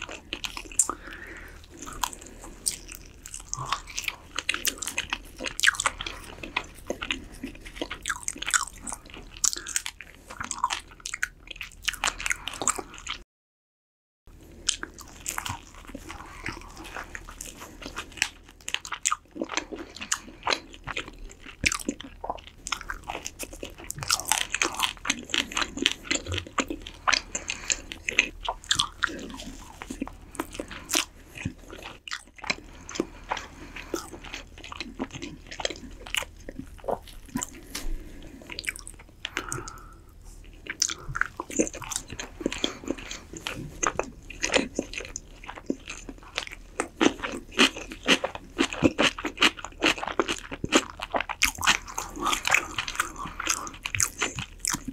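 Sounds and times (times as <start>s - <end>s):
chewing crunchy chicken: 0.0s - 13.2s, 14.3s - 54.9s.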